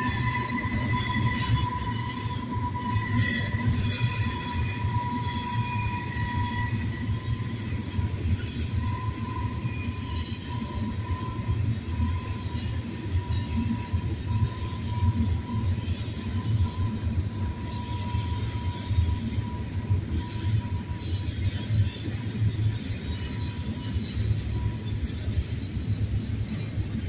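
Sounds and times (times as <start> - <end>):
high-pitched wheel squeal: 0.0 - 27.0
low rumble of train wheels on rail: 0.0 - 27.0.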